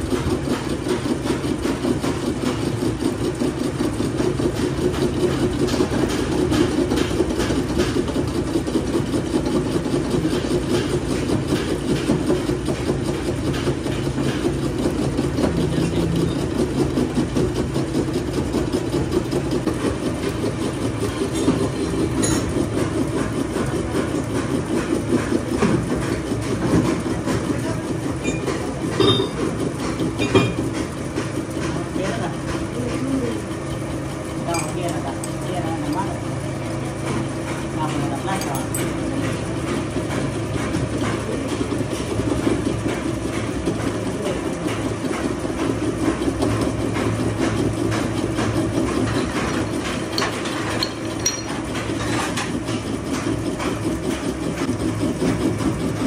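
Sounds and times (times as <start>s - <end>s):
workshop machinery rattling rumble: 0.0s - 56.0s.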